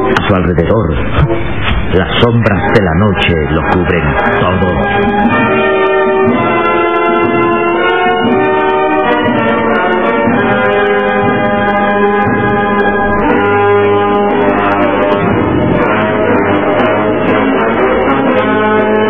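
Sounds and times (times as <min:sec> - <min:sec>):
brass playing held chords: 0:00.0 - 0:19.0.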